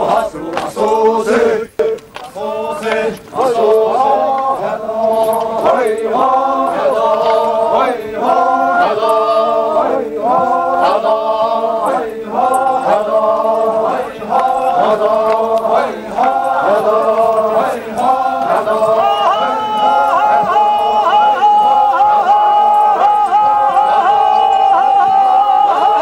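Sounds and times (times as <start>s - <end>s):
men chanting together: 0.0s - 26.0s.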